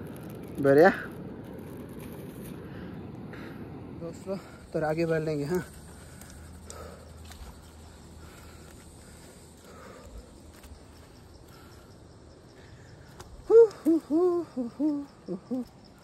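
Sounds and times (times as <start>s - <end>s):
faint high insect trill: 0.0s - 16.0s.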